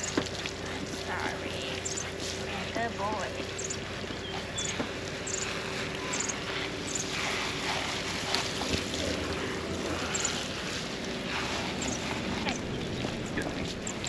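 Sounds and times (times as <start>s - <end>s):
faint steady hum: 0.0s - 14.0s
hose water spraying on dog: 0.0s - 14.0s.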